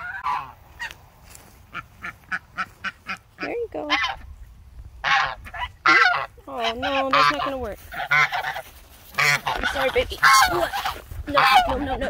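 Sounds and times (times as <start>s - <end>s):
geese honking: 0.0s - 1.0s, 1.6s - 4.3s, 5.0s - 12.0s.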